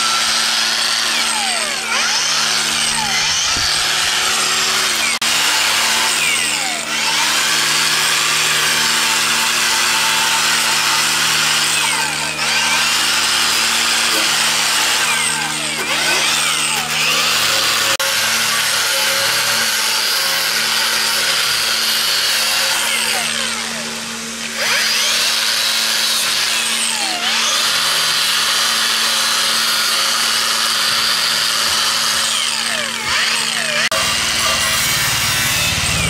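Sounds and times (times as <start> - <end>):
power tool grinding: 0.0 - 36.0.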